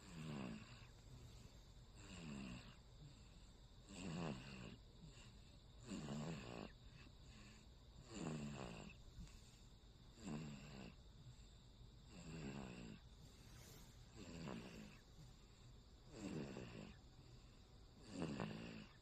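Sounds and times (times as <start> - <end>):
baby snoring: 0.0 - 9.6, 10.2 - 19.0.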